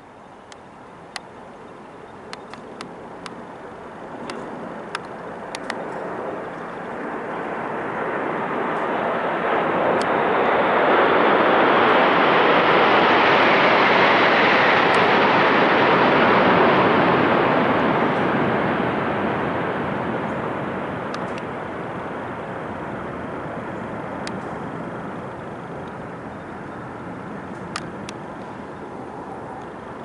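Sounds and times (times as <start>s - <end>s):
fighter jets flying low overhead: 0.0s - 30.0s.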